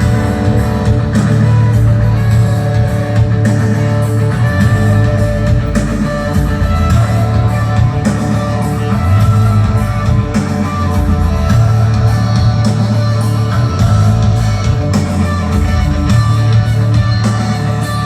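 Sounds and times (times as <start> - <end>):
loud rock music with heavy bass: 0.0 - 18.0.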